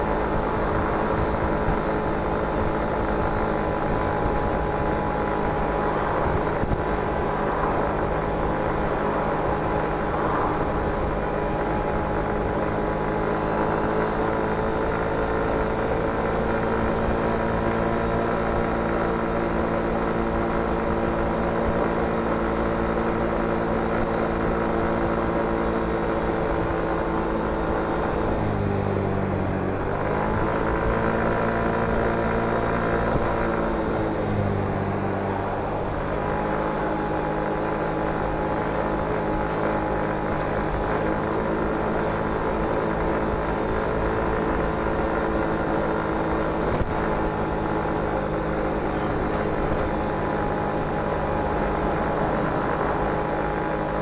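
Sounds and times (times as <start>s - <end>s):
motor scooter engine running: 0.0s - 54.0s.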